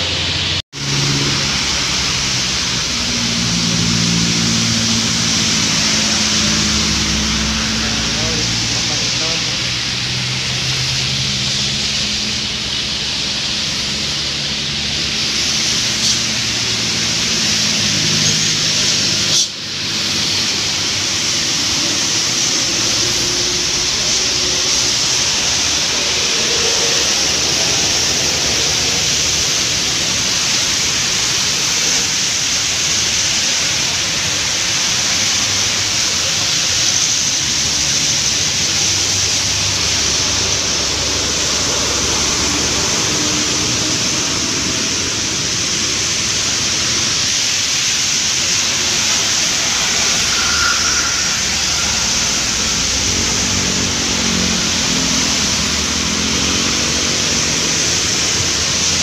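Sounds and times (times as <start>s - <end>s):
heavy rain: 0.0s - 59.0s
tyres hissing on wet road: 0.0s - 59.0s
vehicle engine humming: 0.0s - 59.0s.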